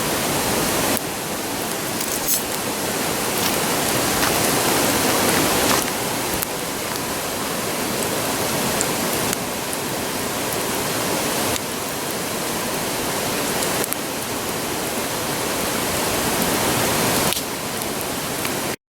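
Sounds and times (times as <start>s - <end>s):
campfire crackles: 0.0s - 18.8s
river roaring: 0.0s - 18.8s.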